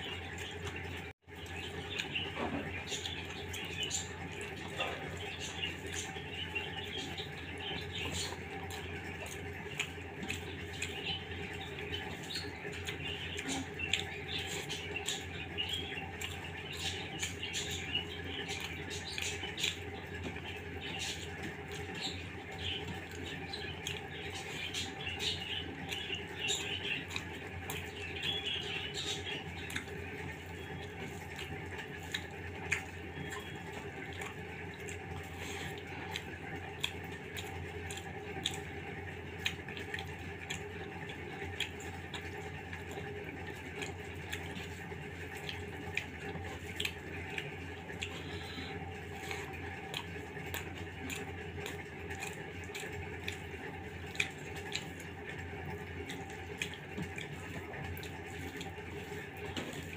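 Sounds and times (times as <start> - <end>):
chewing and lip-smacking: 0.0 - 59.9
steady low hum: 0.0 - 59.9.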